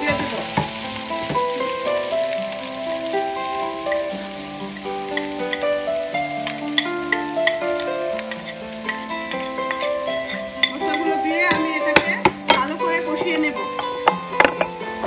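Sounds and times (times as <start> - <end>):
background music: 0.0 - 15.0
onions sizzling in oil: 0.0 - 15.0.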